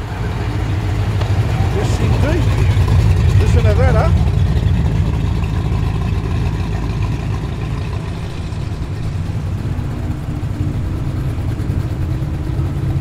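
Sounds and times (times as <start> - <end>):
deep engine exhaust note: 0.0 - 13.0.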